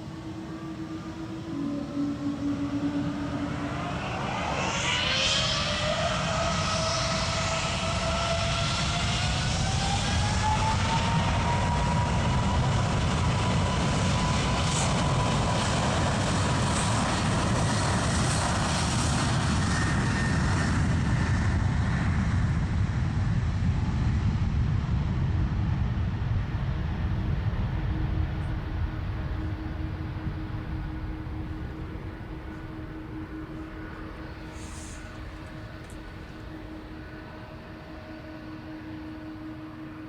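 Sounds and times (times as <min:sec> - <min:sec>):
jet engines whining and roaring: 0:00.0 - 0:40.0.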